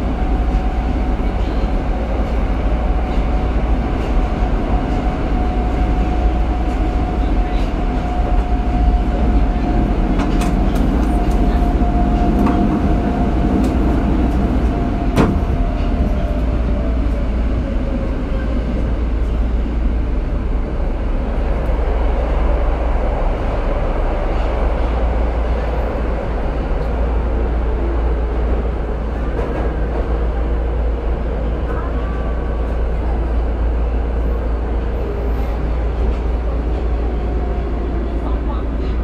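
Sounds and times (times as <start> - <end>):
wheels rumbling on rail: 0.0 - 39.0.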